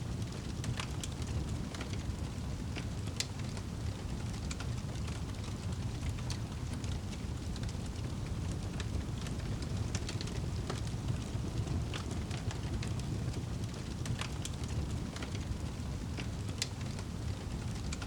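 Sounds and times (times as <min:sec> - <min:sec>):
low rumble of flames: 0:00.0 - 0:18.0
fire popping and crackling: 0:00.1 - 0:18.0.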